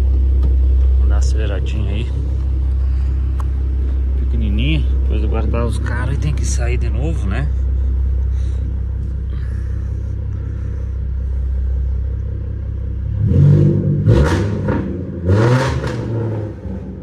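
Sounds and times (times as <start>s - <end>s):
car engine idling: 0.0s - 17.0s
engine throttle blips: 0.0s - 17.0s.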